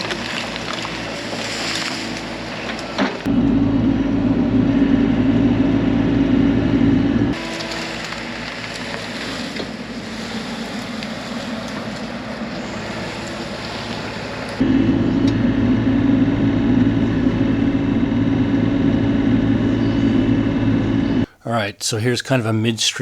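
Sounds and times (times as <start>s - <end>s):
excavator diesel engine running: 0.0s - 21.3s.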